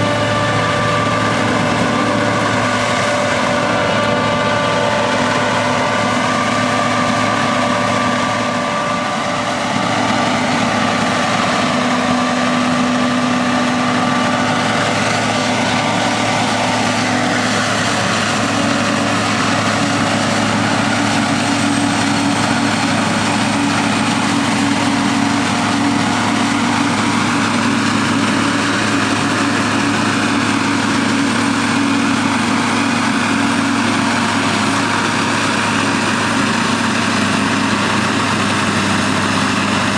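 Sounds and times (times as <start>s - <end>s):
diesel engines running: 0.0s - 39.9s
whining machinery tones: 0.0s - 39.9s.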